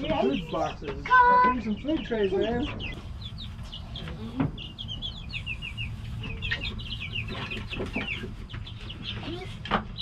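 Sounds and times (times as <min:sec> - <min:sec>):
chickens chirping and peeping: 0:00.0 - 0:10.0.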